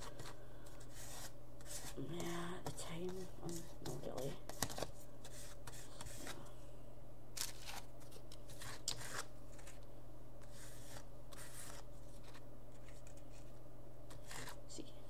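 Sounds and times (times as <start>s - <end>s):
paper cards scraping and rustling: 0.0s - 6.5s, 7.4s - 14.6s
steady low hum: 0.0s - 15.0s.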